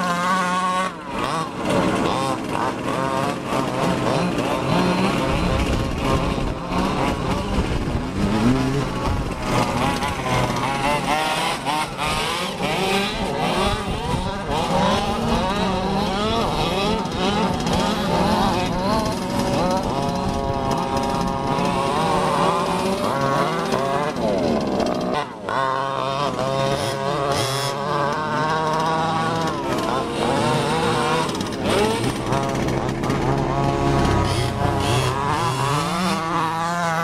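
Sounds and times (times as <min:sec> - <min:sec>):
low engine drone: 0:00.0 - 0:37.0
small two-stroke engines revving: 0:00.0 - 0:37.0.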